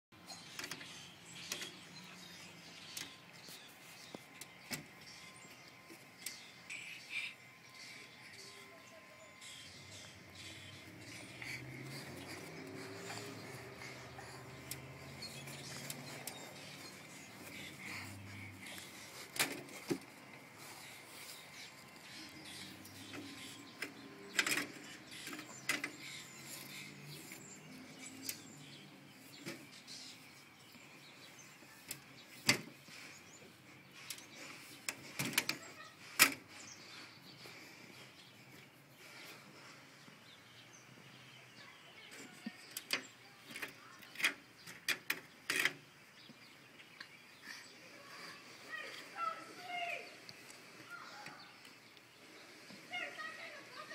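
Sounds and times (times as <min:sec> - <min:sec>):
faint bird chirping: 0:00.2 - 0:53.9.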